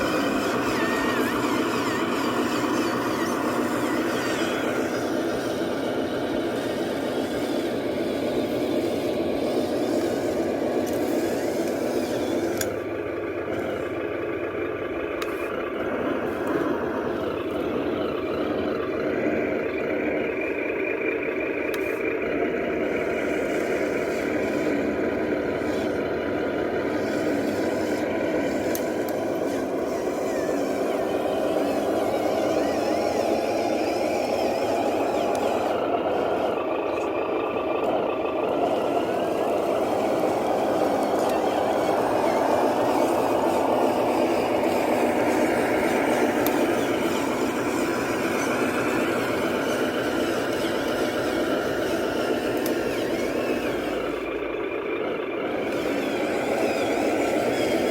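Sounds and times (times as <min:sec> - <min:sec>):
remote control truck running: 0:00.0 - 0:57.9.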